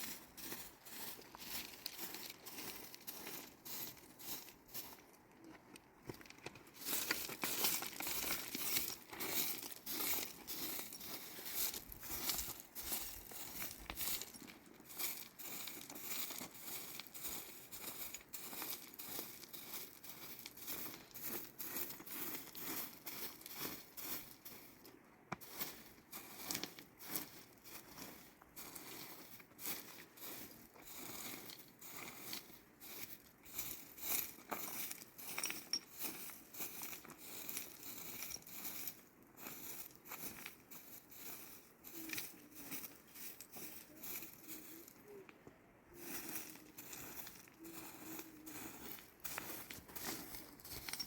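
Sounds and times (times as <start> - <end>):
scratchy rustling and crinkling: 0.0 - 5.2, 6.1 - 45.3, 45.9 - 51.0.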